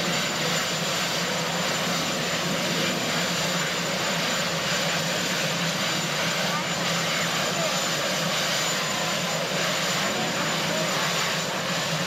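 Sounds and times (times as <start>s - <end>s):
helicopter engine and rotor running: 0.0s - 12.0s.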